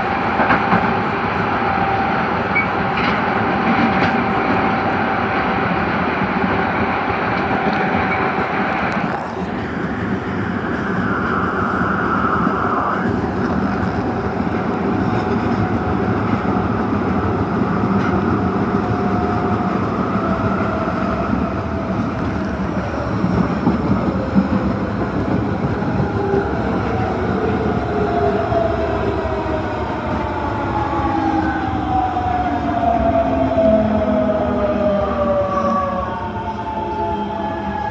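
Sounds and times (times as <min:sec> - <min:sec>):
subway train rumble: 0:00.0 - 0:37.9.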